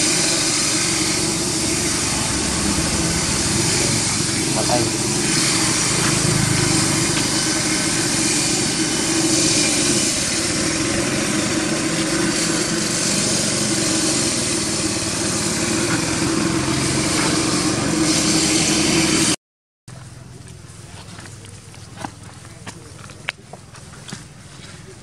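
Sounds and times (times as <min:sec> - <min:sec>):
small engine humming: 0:00.0 - 0:25.0.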